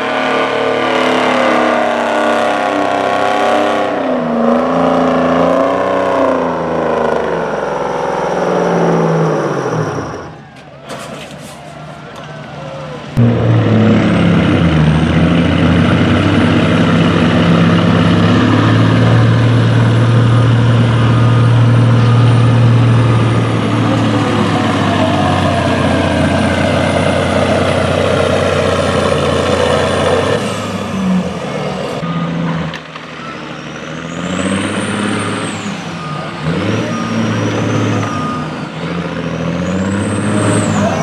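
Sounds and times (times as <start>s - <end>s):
diesel truck engine under load: 0.0s - 41.0s.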